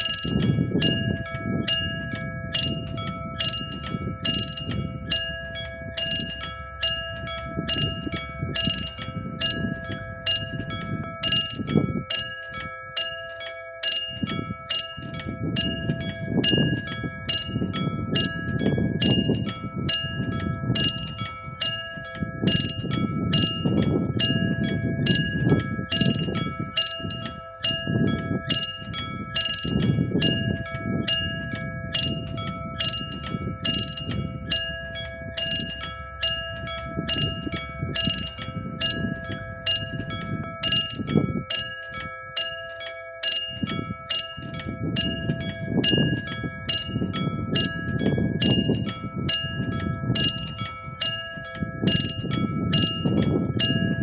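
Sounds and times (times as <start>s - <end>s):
level crossing bell ringing: 0.0s - 54.0s.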